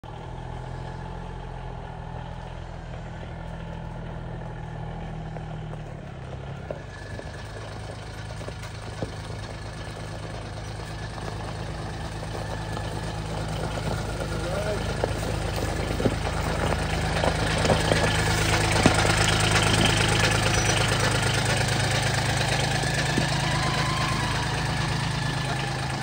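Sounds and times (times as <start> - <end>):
utility vehicle engine running: 0.0 - 26.0
tyres crunching over gravel: 3.0 - 26.0.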